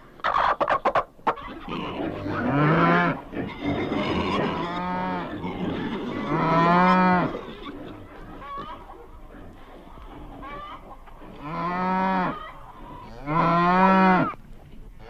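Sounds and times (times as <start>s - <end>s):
cattle mooing: 1.5s - 14.4s.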